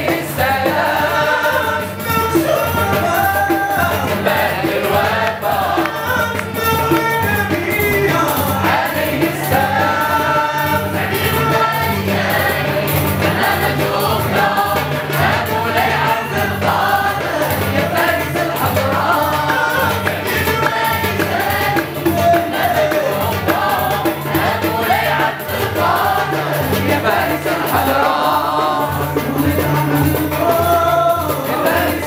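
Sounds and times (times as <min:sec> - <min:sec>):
chorus singing together: 0:00.0 - 0:32.0.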